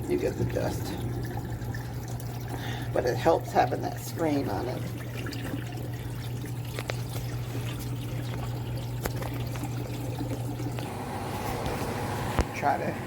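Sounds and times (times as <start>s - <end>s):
water pouring from drain hose: 0.0s - 12.8s
pump humming: 0.0s - 13.0s.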